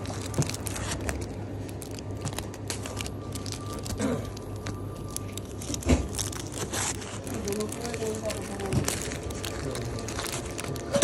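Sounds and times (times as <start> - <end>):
handling clicks and crackles: 0.0 - 11.0
low hum: 0.0 - 11.0.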